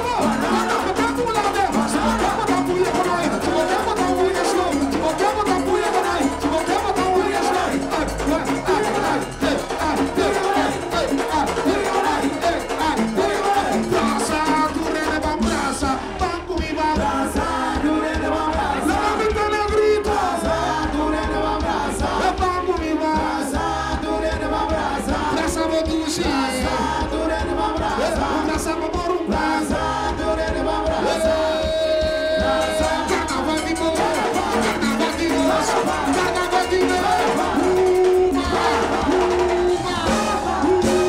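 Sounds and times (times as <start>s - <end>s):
drums and percussion beat: 0.0s - 41.0s
loud carnival music: 0.0s - 41.0s
person singing: 0.0s - 41.0s.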